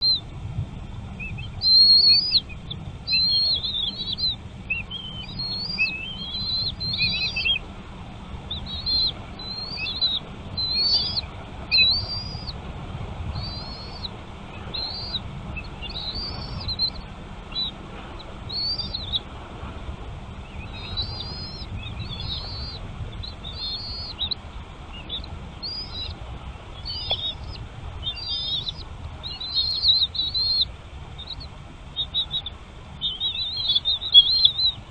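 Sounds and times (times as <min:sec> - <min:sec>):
small birds chirping: 0:00.0 - 0:00.4, 0:01.0 - 0:34.9
low steady rumble: 0:00.0 - 0:34.9.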